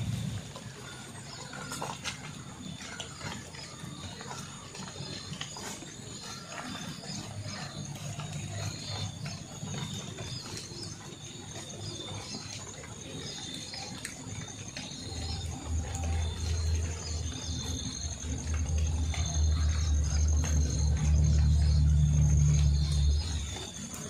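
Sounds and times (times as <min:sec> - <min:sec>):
insects chirping and trilling: 0:02.6 - 0:24.0.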